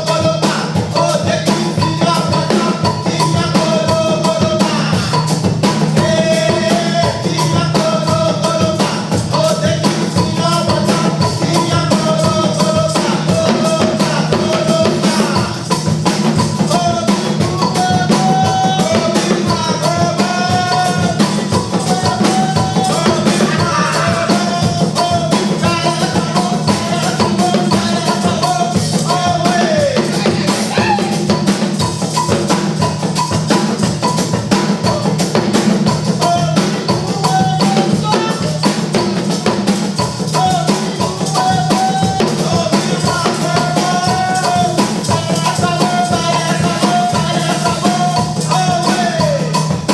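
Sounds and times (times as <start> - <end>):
song with busy drum beat: 0.0 - 49.9.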